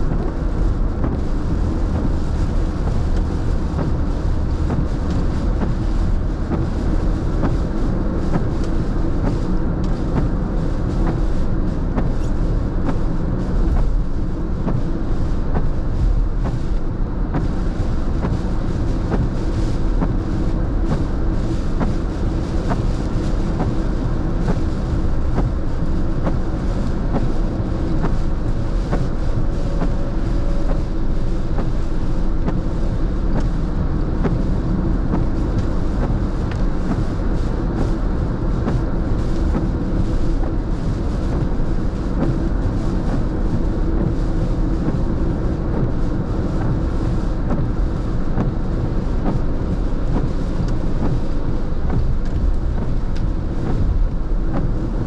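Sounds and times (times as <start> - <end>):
raindrops ticking on windshield: 0.0 - 55.0
tyres on wet pavement: 0.0 - 55.0
windshield wipers sweeping: 0.0 - 55.0.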